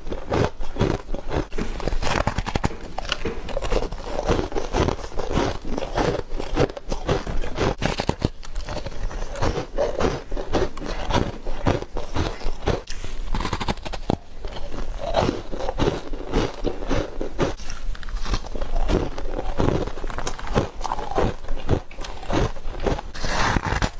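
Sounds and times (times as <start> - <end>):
chewing ice crunches: 0.0 - 23.9.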